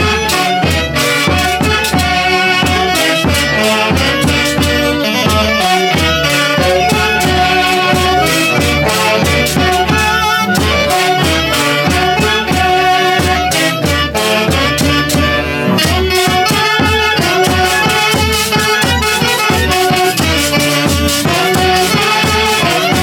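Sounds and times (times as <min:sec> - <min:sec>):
folk dance orchestra: 0:00.0 - 0:23.0
violin melody: 0:00.0 - 0:23.0
wind instruments: 0:00.0 - 0:23.0.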